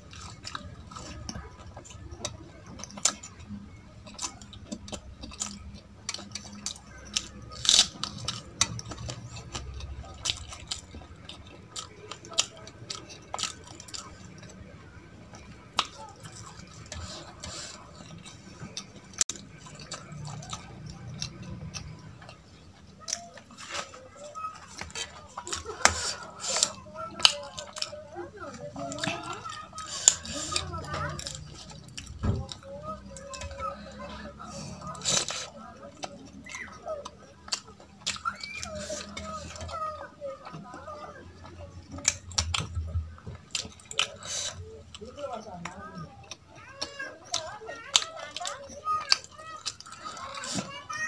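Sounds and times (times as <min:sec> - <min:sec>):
chewing: 0:00.0 - 0:51.0.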